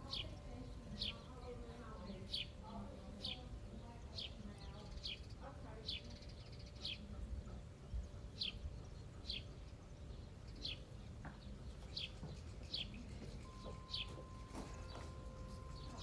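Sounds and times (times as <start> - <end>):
faint steady hum: 0.0 - 16.0
small bird chirping: 0.0 - 16.0.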